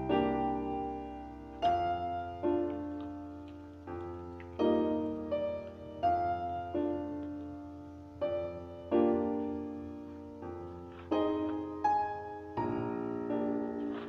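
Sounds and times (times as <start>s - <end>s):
solo piano chords: 0.0s - 14.0s.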